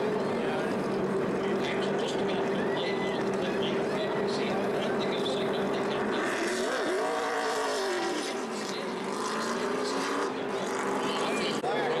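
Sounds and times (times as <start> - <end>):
racing car engines passing: 0.0 - 12.0.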